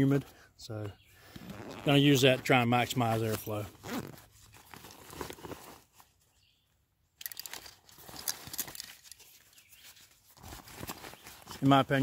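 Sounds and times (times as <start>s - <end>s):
rustling and crinkling: 1.2s - 6.6s, 7.2s - 12.0s.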